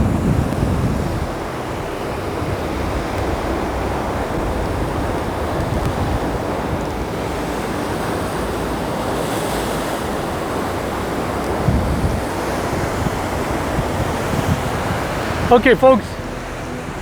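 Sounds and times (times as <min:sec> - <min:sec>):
ocean waves rolling: 0:00.0 - 0:17.0
wind buffeting microphone: 0:00.0 - 0:17.0.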